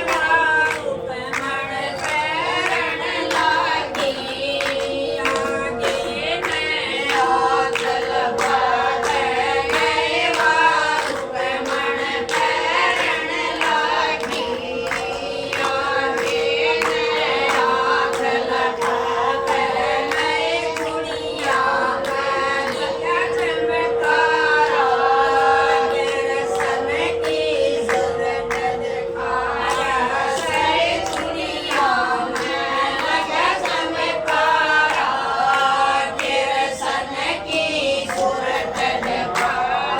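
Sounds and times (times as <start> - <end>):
hand-claps beat: 0.0 - 39.9
steady drone note: 0.0 - 39.9
women singing in unison: 0.0 - 39.9.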